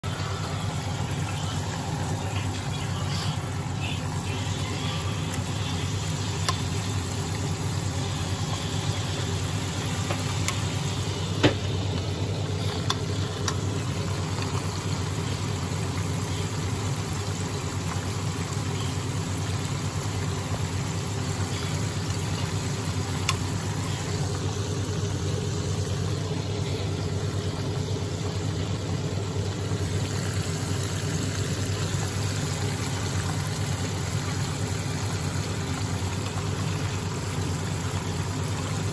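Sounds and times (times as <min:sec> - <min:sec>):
deep-frying in hot oil: 0:00.0 - 0:38.9
low steady hum: 0:00.0 - 0:38.9
oil popping: 0:00.0 - 0:38.9.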